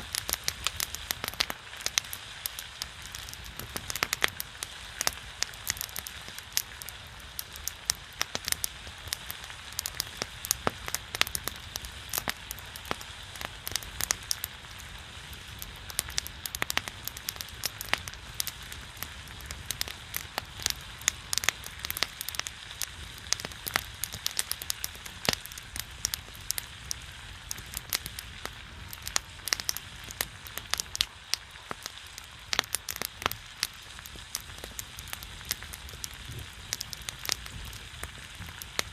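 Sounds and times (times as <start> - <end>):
fire popping and crackling: 0.0 - 38.9
meat sizzling on a griddle: 0.0 - 38.9.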